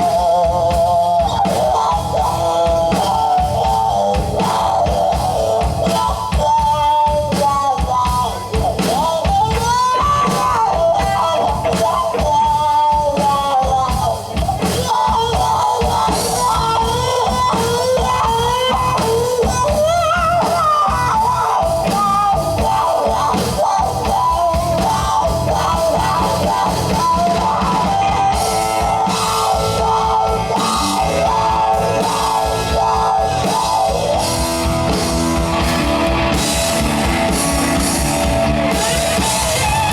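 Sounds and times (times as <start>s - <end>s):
rock band playing: 0.0s - 39.9s
sliding lead guitar melody: 0.0s - 39.9s.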